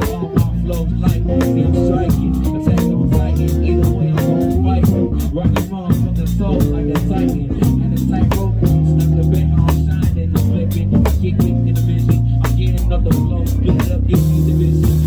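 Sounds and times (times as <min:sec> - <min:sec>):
drum kit beat: 0:00.0 - 0:15.0
electric guitar: 0:00.0 - 0:15.0
low bass notes: 0:00.0 - 0:15.0.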